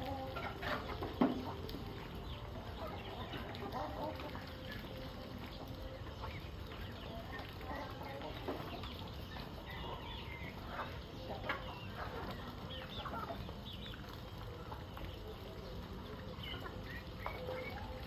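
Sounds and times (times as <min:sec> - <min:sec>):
chickens clucking: 0:00.0 - 0:18.0
low background noise: 0:00.0 - 0:18.0.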